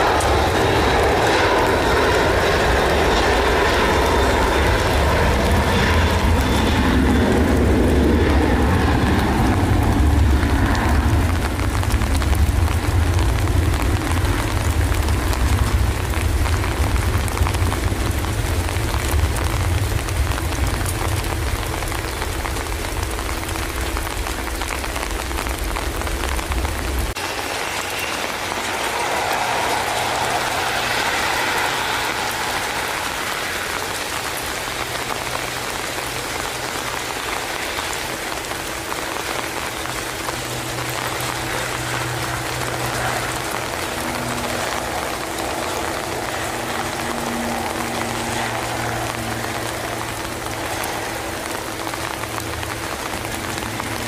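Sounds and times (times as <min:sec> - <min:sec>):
heavy rain falling: 0:00.0 - 0:54.0
jet engines deep rumble: 0:00.0 - 0:54.0
turboprop engine drone: 0:00.0 - 0:54.0.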